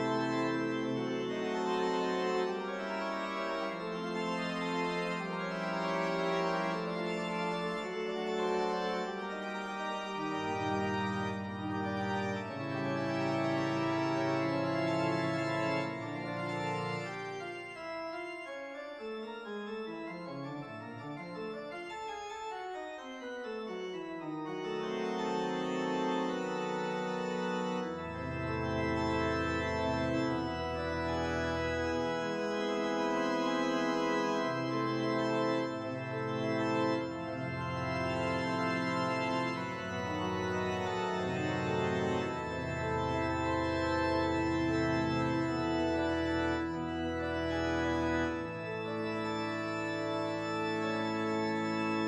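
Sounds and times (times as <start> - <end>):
organ music: 0.0 - 52.0.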